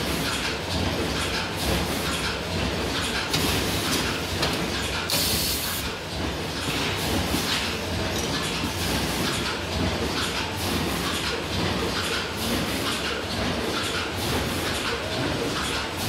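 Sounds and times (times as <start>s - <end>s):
machine clatter: 0.0s - 16.0s.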